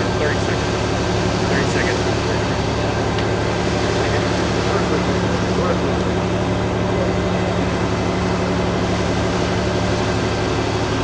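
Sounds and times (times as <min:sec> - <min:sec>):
low hum: 0:00.0 - 0:11.0
machine drone: 0:00.0 - 0:11.0.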